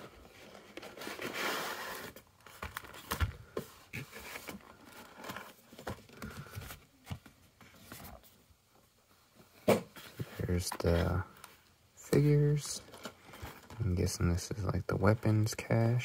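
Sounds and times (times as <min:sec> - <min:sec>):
cardboard handled and rustling: 0:00.0 - 0:14.1.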